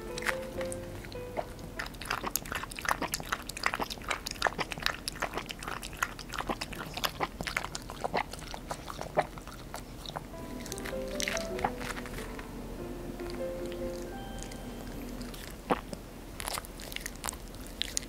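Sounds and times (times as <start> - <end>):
dog eating and licking: 1.4 - 12.3, 13.3 - 18.0.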